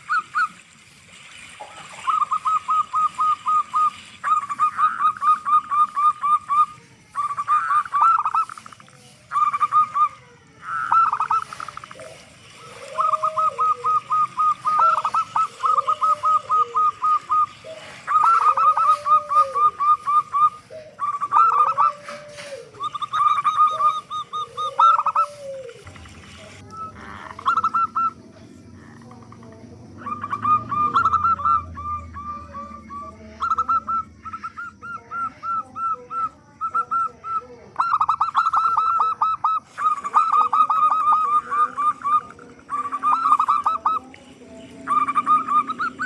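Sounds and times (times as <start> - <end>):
doves quick cooing notes: 0.0 - 46.0
low rounded coo: 1.5 - 46.0.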